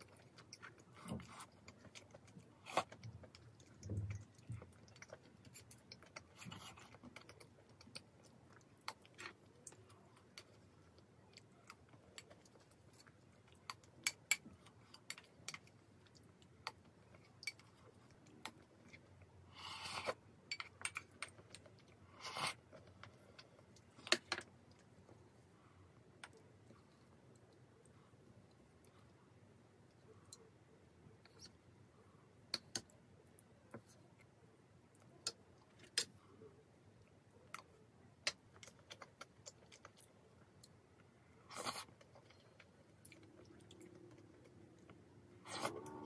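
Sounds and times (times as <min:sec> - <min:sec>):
soft chewing: 0:00.0 - 0:46.0.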